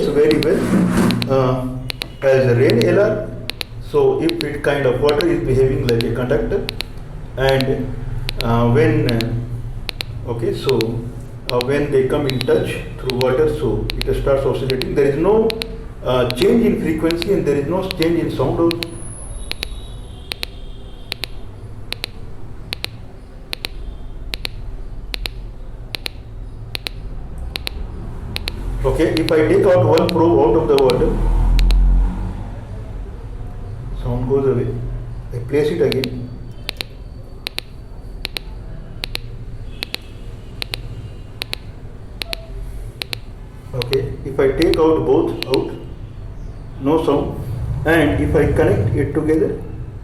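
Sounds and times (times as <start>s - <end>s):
speaker ticking sharp clicks: 0.0s - 31.9s, 35.9s - 45.8s.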